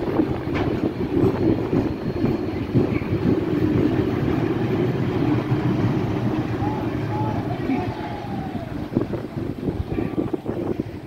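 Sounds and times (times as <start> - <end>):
train knocks: 0.0 - 11.0
train wheels rumbling on track: 0.0 - 11.0.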